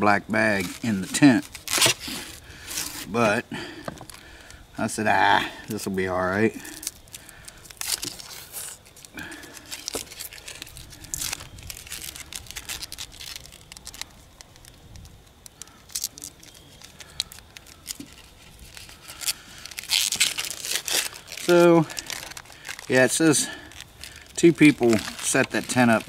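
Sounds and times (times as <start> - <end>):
onion skin crinkling and tearing: 0.3 - 4.6, 5.5 - 26.0.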